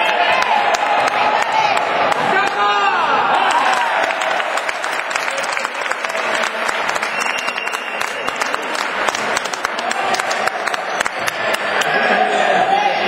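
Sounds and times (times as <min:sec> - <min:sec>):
crowd applauding: 0:00.0 - 0:12.5.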